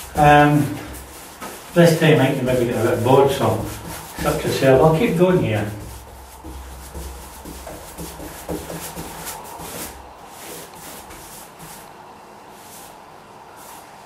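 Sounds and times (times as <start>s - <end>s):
paintbrush rubbing strokes on wood: 0.0s - 14.0s.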